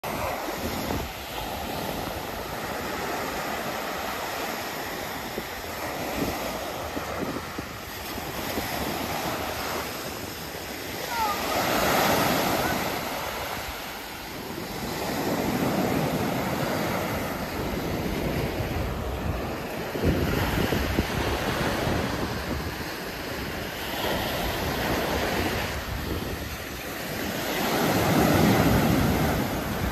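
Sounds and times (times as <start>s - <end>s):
ocean surf breaking: 0.0s - 29.9s.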